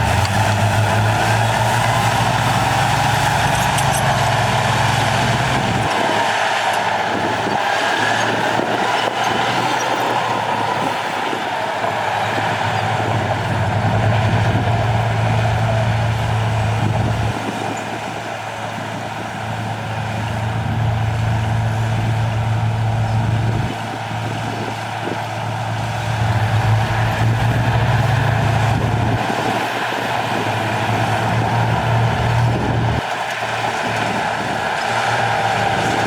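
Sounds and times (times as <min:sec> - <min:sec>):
heavy diesel engine droning: 0:00.0 - 0:36.0.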